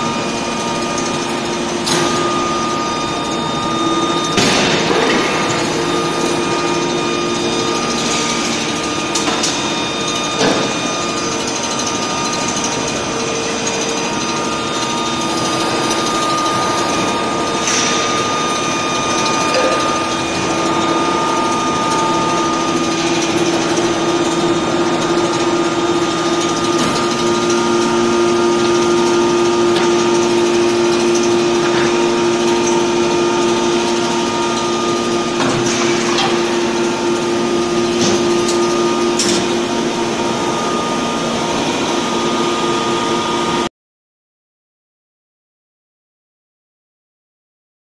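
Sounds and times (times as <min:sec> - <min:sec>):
factory machinery hum: 0:00.0 - 0:43.7.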